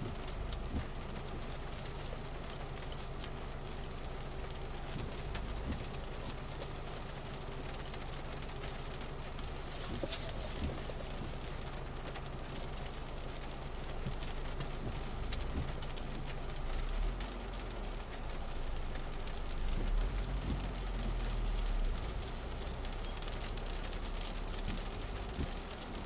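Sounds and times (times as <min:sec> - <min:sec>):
low steady hum: 0:00.0 - 0:26.0
rain on car roof: 0:00.0 - 0:26.0.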